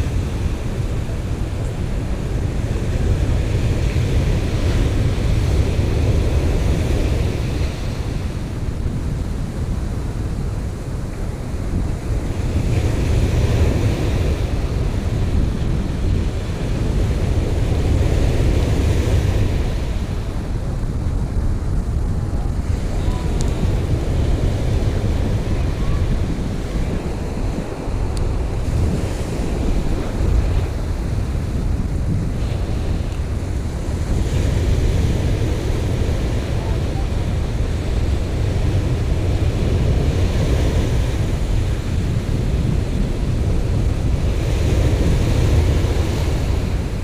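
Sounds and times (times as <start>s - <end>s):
ocean surf breaking on beach: 0.0s - 47.0s
wind rumble on microphone: 0.0s - 47.0s.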